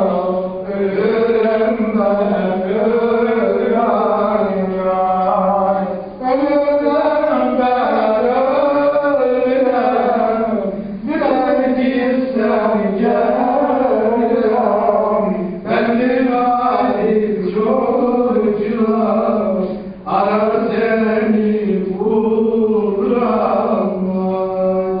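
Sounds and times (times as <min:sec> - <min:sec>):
man singing slow melody: 0:00.0 - 0:25.0.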